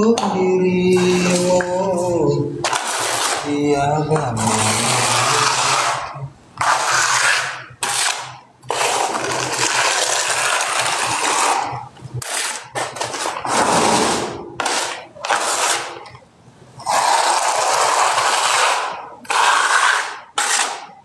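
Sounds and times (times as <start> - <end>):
harsh scraping: 0.8 - 16.1, 16.8 - 20.8.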